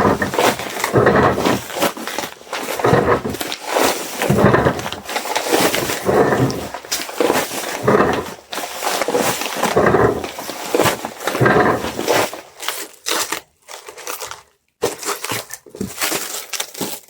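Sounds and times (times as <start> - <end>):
packing materials rustling: 0.0 - 17.0.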